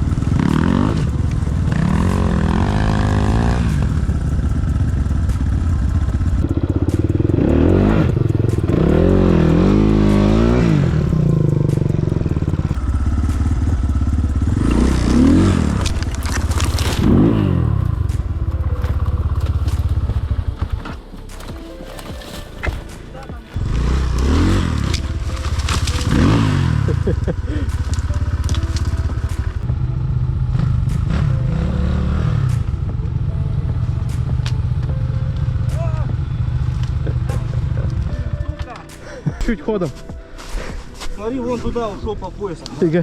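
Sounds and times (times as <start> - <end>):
motorcycle engine revving: 0.0 - 39.4.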